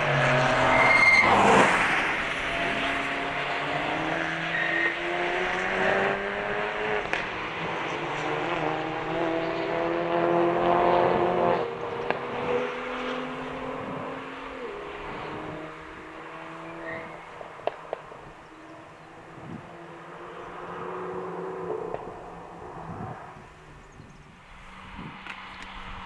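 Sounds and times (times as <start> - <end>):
rally car engine accelerating: 0.0 - 23.2.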